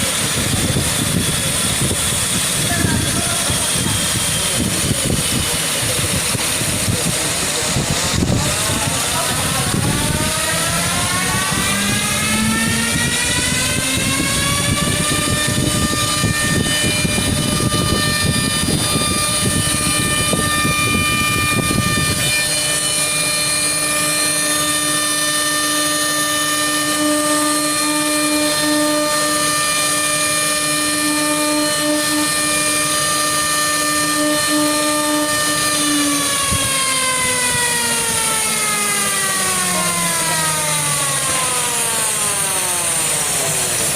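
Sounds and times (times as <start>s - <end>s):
router spindle whining: 0.0s - 43.9s
steady lower hum: 0.0s - 43.9s.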